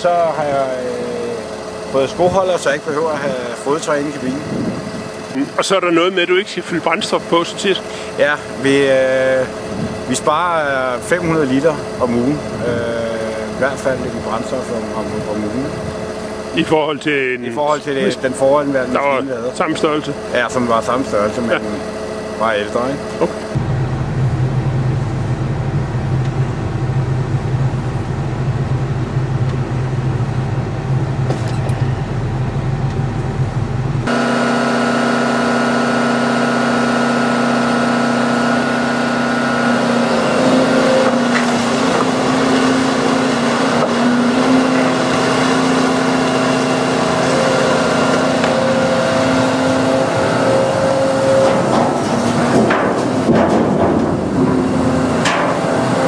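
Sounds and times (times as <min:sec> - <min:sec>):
engine and hydraulics whining: 0:00.0 - 0:56.0
excavator engine hum from cab: 0:00.0 - 0:56.0.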